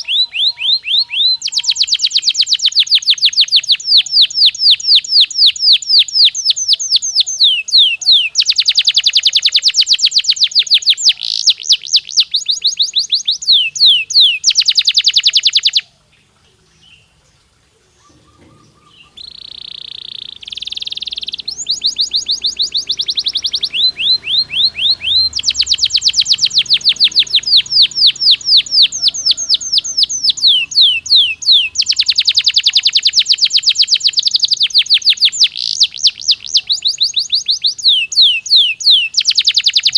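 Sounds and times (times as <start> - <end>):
canary trilling: 0.0 - 15.9, 18.0 - 39.9.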